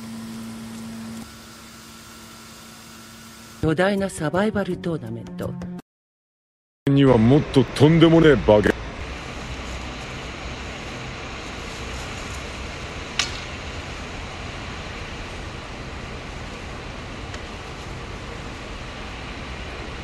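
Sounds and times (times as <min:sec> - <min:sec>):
outdoor hiss and hum: 0:00.0 - 0:03.9, 0:06.9 - 0:20.0.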